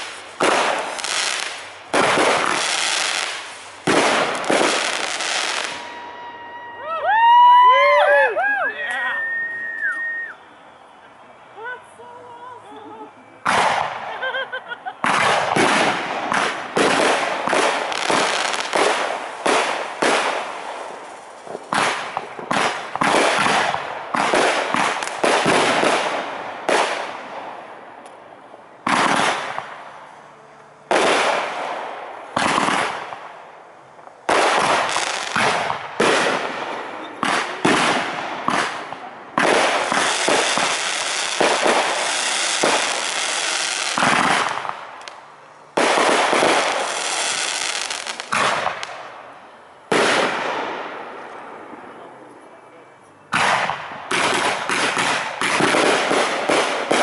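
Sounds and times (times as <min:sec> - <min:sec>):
fireworks bursting: 0:00.0 - 0:08.3, 0:08.9 - 0:57.0
fireworks crackle: 0:00.0 - 0:08.3, 0:08.9 - 0:57.0.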